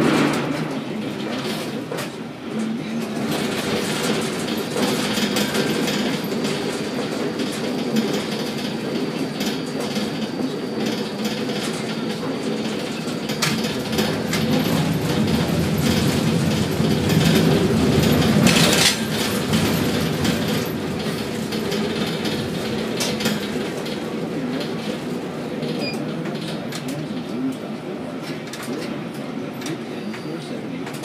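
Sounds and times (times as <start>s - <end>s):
crane machinery rumble and clatter: 0.0s - 31.0s.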